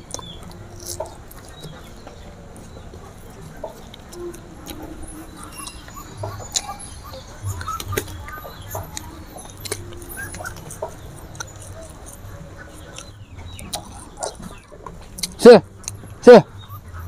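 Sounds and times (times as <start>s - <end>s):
chewing crispy food: 0.0s - 16.8s.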